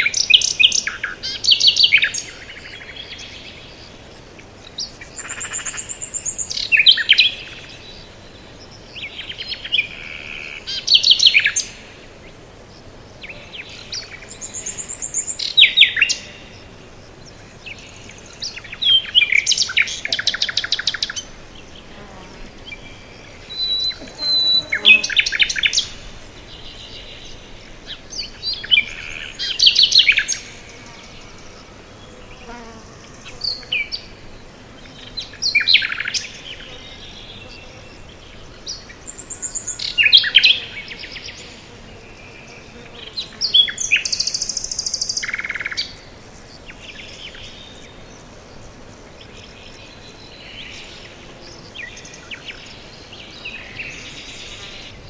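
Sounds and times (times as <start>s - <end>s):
faint steady background hiss: 0.0s - 55.0s
songbirds chirping and trilling: 0.0s - 55.0s.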